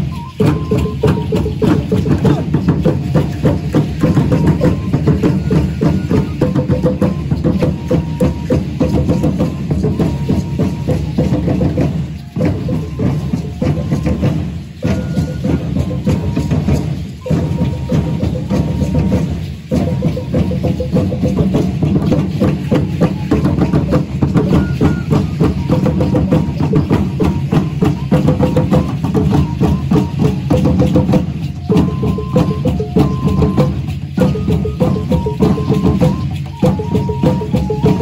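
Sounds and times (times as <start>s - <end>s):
drums beating fast: 0.0s - 38.0s
flute melody: 0.0s - 38.0s.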